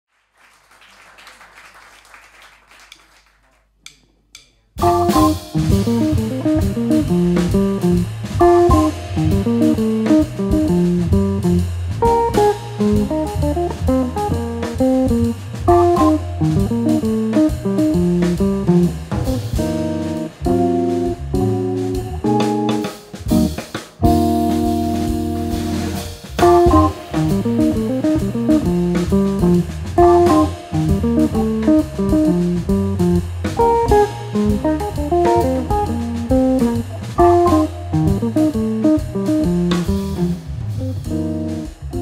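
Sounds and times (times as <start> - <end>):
drum kit: 3.9 - 42.0
electric guitar: 4.8 - 42.0
organ with bass line: 4.8 - 42.0.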